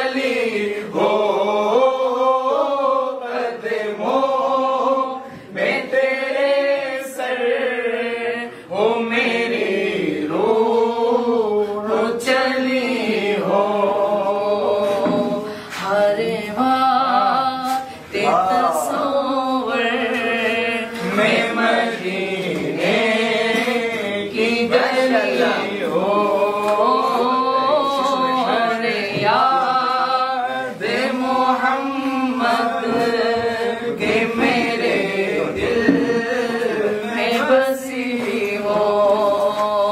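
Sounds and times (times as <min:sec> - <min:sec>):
man singing devotional song: 0:00.0 - 0:39.9.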